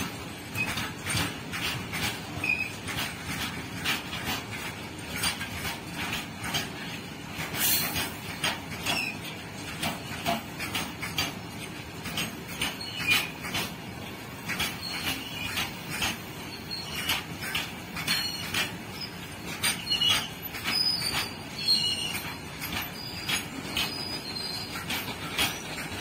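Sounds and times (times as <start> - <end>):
high wheel squeaks: 0.0 - 10.5, 12.0 - 26.0
train wheels rumbling on rail: 0.0 - 26.0
wheels clacking over rail joints: 0.0 - 26.0.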